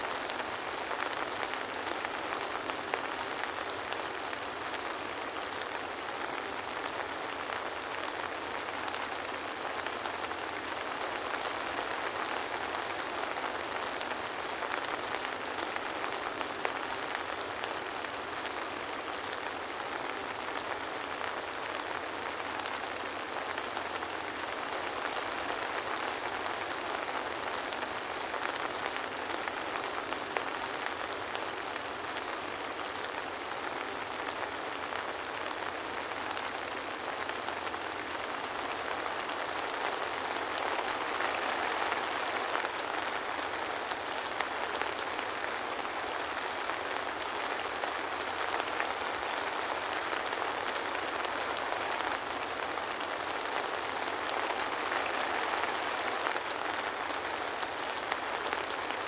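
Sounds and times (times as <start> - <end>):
soft rain pattering: 0.0 - 59.0.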